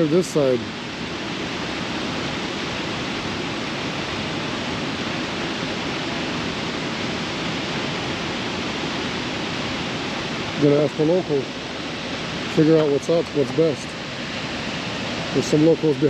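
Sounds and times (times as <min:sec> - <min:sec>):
water rushing from spillway: 0:00.0 - 0:16.0.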